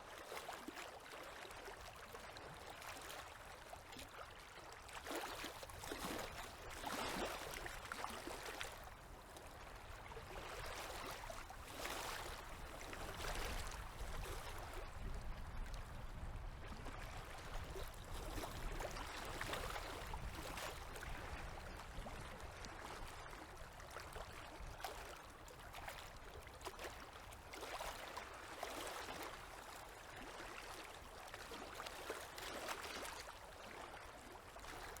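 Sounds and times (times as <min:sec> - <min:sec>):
river waves lapping against bank: 0:00.0 - 0:35.0.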